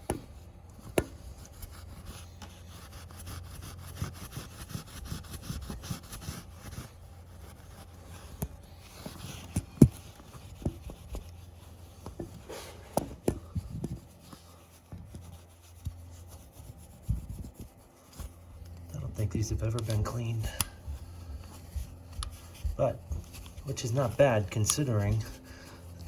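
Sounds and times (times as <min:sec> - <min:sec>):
abrasive pad scrubbing metal: 0:00.0 - 0:26.0.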